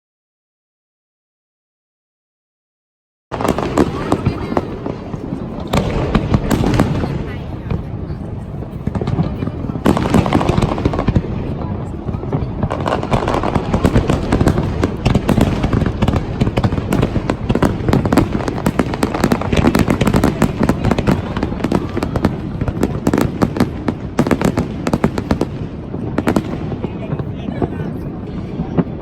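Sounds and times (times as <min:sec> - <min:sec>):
fireworks crackling and popping: 0:03.3 - 0:29.0
low fireworks booms: 0:03.3 - 0:29.0.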